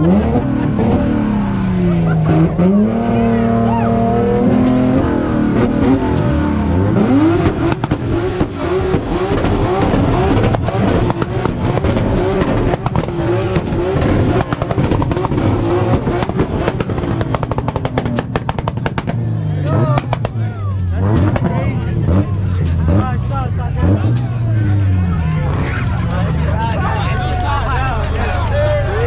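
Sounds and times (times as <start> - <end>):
car engine revving hard: 0.0 - 27.4
exhaust pops and crackles: 4.5 - 28.9.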